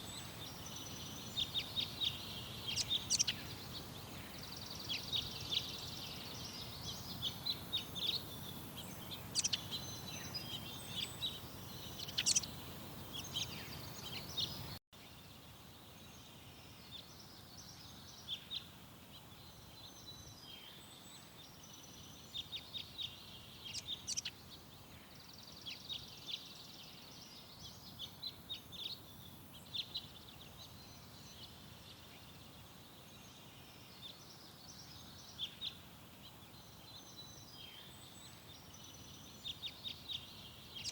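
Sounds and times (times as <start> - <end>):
songbirds chirping and singing: 0.0 - 40.9
steady background hiss: 0.0 - 40.9.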